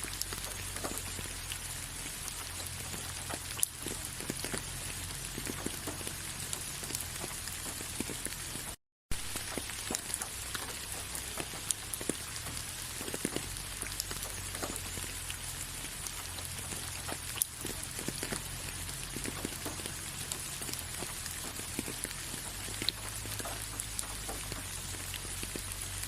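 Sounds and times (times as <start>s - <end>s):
raindrops striking a surface: 0.0s - 26.0s.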